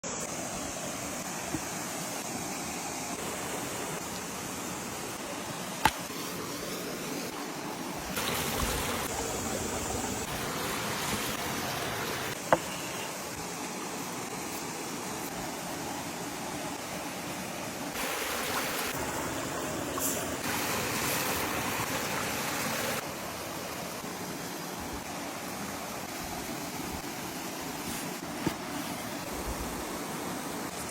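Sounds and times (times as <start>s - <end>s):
stream water flowing: 0.0s - 30.9s.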